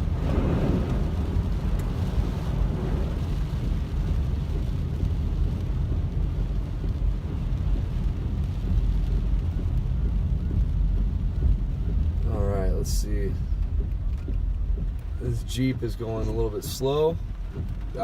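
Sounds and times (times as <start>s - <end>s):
car cabin road and engine noise: 0.0s - 18.0s
tyres on a wet road: 0.0s - 18.0s.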